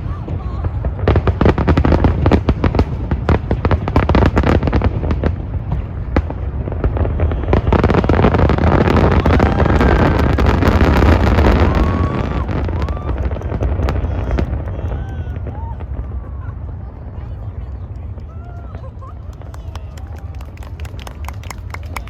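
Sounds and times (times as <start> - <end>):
fireworks sharp bangs: 0.0 - 21.3
fireworks crackle: 0.0 - 22.0
steady low rumble: 0.0 - 22.0.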